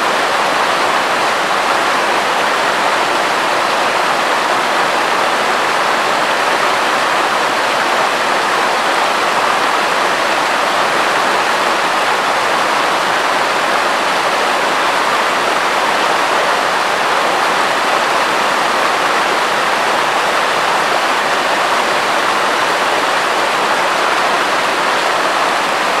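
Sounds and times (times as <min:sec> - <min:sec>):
river rushing over boulders: 0:00.0 - 0:26.0.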